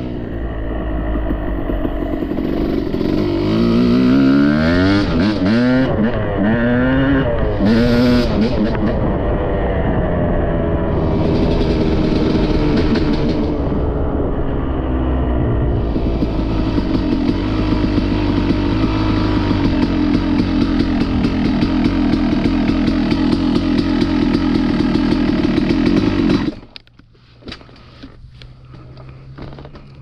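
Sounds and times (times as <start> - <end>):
dirt bike engine running hard: 0.0 - 26.8.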